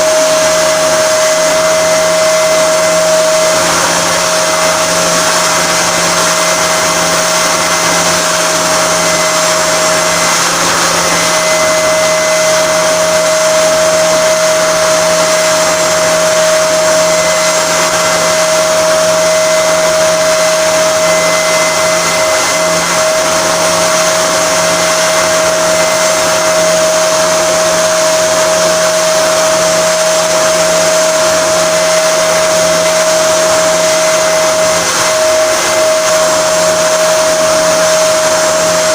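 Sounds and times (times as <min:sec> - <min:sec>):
power tool whining on wood: 0:00.0 - 0:38.9.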